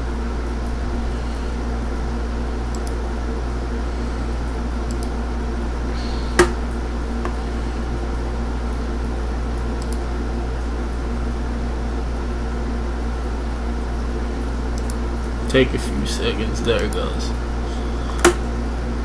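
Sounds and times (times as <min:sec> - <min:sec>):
computer fan hum: 0:00.0 - 0:19.0.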